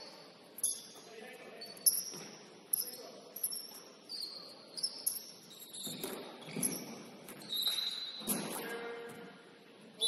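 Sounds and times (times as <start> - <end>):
shoes squeaking on gym floor: 0.0 - 9.3.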